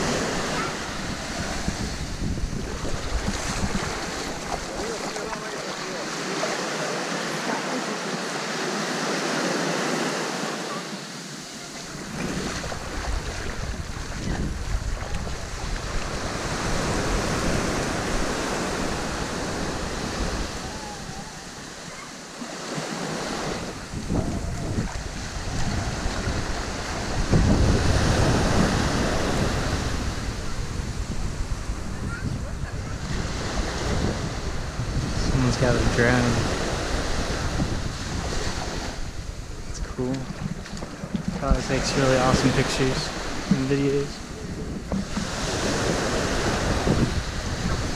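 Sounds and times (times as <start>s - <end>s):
wind buffeting microphone: 0.0s - 6.4s, 11.3s - 22.0s, 22.8s - 47.9s
small waves washing on shore: 0.0s - 47.9s.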